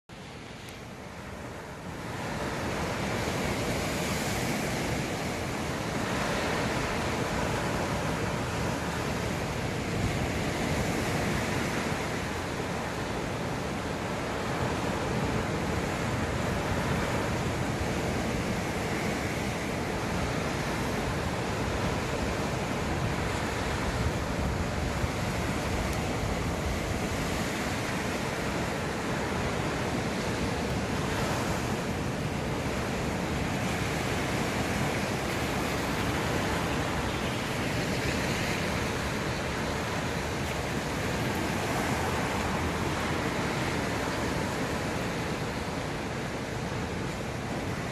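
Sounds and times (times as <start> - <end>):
sea waves washing onto beach: 0.1 - 47.9.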